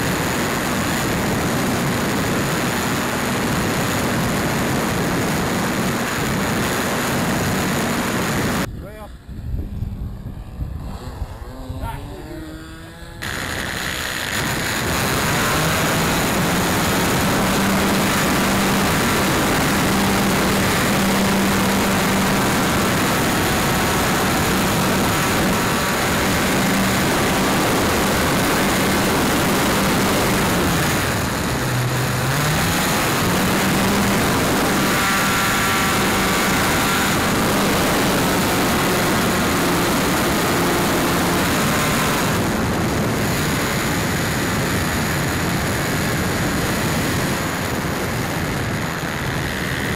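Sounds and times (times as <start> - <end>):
model airplane engine: 0.0 - 49.9.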